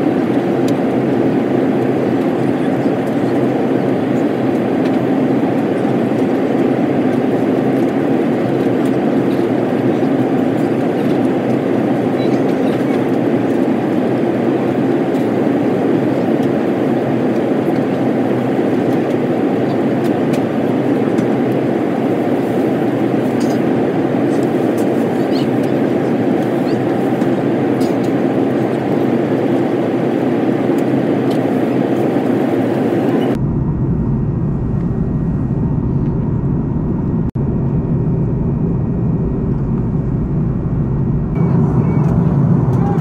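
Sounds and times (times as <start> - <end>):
airplane cabin rumble: 0.0 - 43.0.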